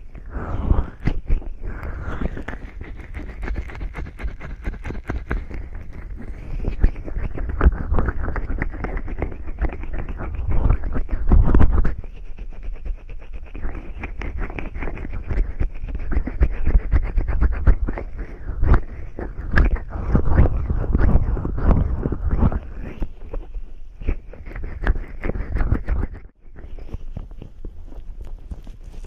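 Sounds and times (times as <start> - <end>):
wet rubbing and squishing: 0.0 - 11.1, 11.7 - 29.0.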